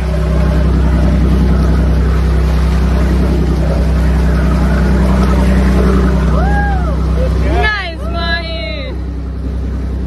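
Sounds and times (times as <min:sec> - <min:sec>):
motorboat engine droning: 0:00.0 - 0:10.0
water rushing along hull: 0:00.0 - 0:10.0.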